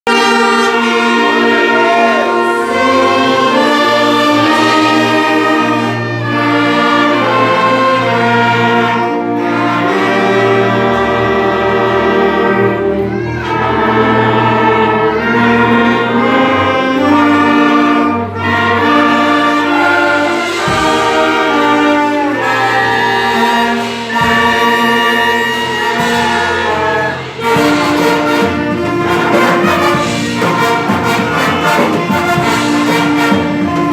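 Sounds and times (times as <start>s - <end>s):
orchestra with brass playing: 0.0s - 33.9s.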